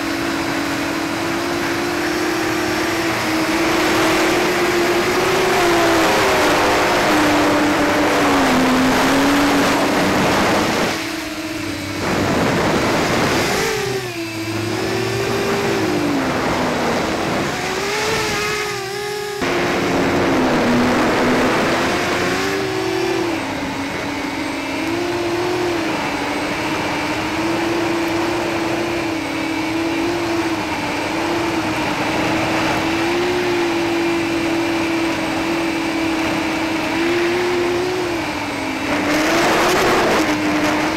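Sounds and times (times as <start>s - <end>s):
drone motors whining: 0.0s - 40.9s.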